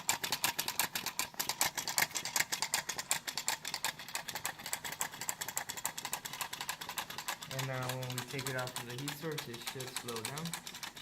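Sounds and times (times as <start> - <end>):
small engine clicking steadily: 0.0 - 11.0.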